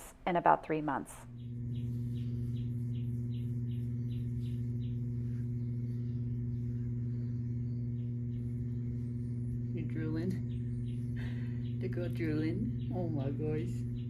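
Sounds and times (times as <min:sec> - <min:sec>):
low hum with overtones: 0:00.0 - 0:14.0.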